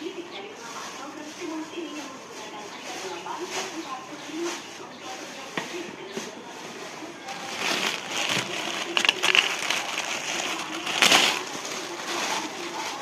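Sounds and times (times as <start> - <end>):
crinkling and rustling: 0.6 - 13.0.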